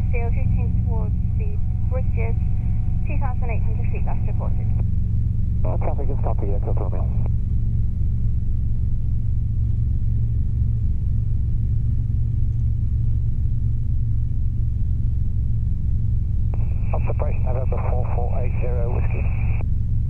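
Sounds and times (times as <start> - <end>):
helicopter engine and rotors: 0.0 - 20.0.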